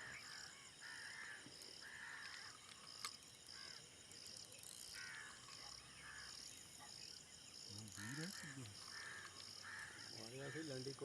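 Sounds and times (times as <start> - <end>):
birds calling: 0.0 - 11.0
insects chirping: 0.0 - 11.0.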